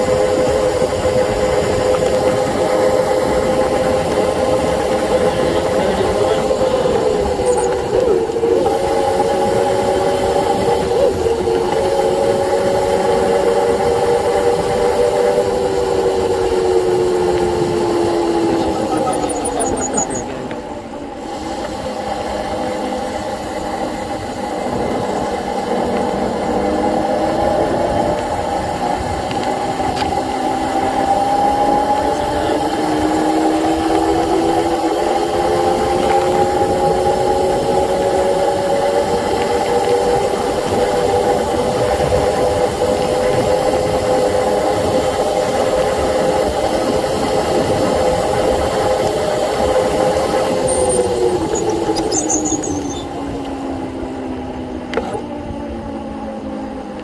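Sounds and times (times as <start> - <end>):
electric bike motor whining: 0.0 - 57.0.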